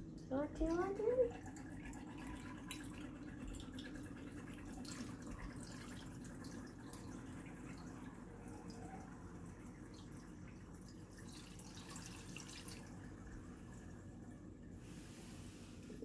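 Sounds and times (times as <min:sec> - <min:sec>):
water pouring into reservoir: 0:00.6 - 0:15.3.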